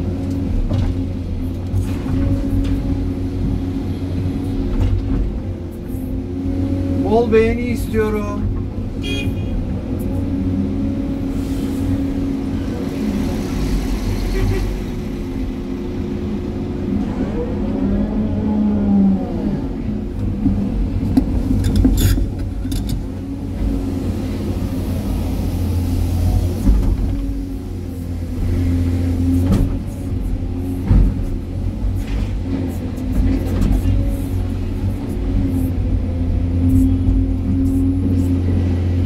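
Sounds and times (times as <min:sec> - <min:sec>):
excavator engine and hydraulics: 0:00.0 - 0:39.0.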